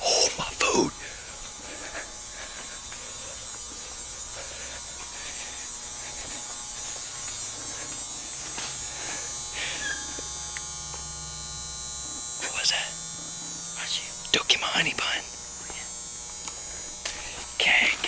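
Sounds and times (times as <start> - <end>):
electric whirring hum: 0.0 - 18.0
high hiss: 0.0 - 18.0.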